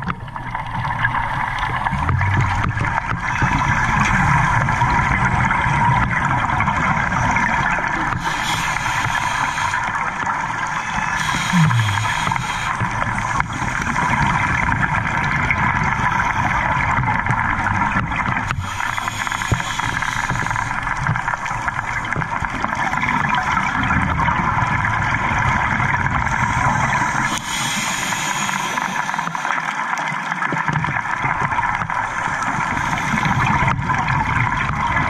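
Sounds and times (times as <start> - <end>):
scuba regulator exhaust bubbles: 0.0 - 35.0
underwater hiss and rumble: 0.0 - 35.0.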